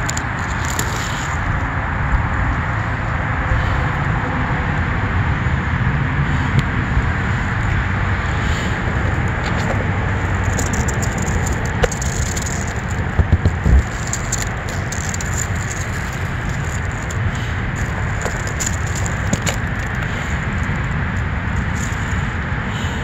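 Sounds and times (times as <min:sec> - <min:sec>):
traffic rumble: 0:00.0 - 0:23.0
wind: 0:00.0 - 0:23.0.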